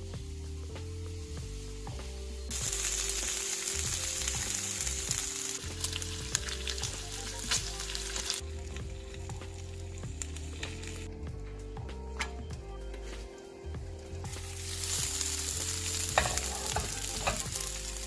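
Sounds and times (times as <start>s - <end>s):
food sizzling in a frying pan: 0.0s - 11.1s, 13.0s - 18.0s
soft background music: 0.0s - 18.0s.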